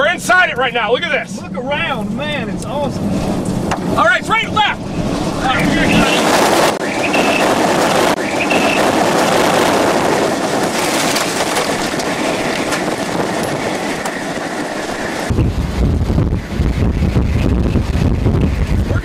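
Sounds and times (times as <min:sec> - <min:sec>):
wind buffeting microphone: 0:00.3 - 0:19.0
wind rushing: 0:01.2 - 0:19.0.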